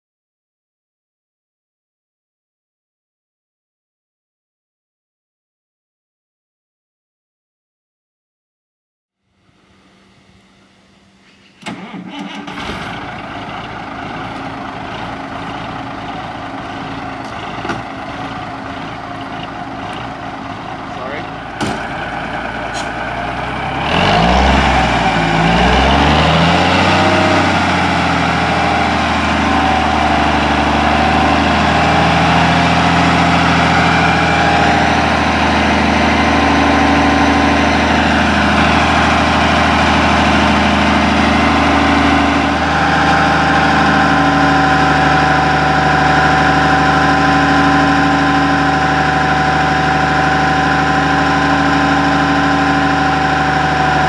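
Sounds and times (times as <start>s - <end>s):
garbage truck diesel engine: 9.4s - 54.0s.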